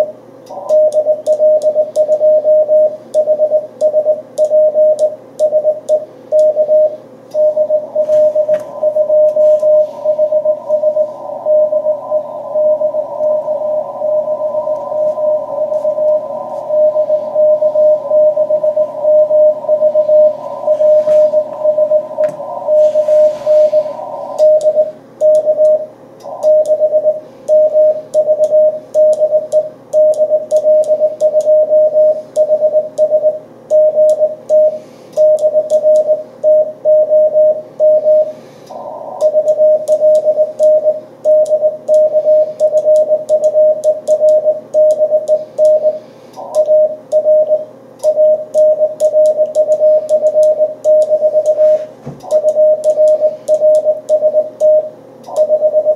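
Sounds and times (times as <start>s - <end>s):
morse code tone: 0.0s - 55.9s.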